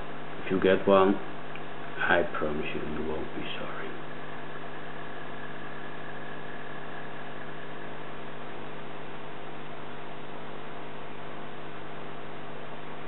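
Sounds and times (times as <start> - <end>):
constant hiss: 0.0 - 13.0
electrical hum: 0.0 - 13.0.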